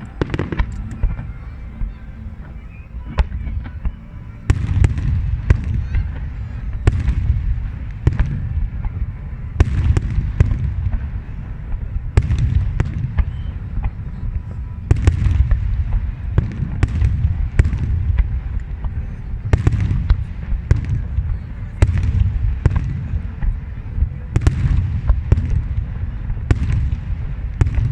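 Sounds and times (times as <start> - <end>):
fireworks cracking: 0.0 - 27.9.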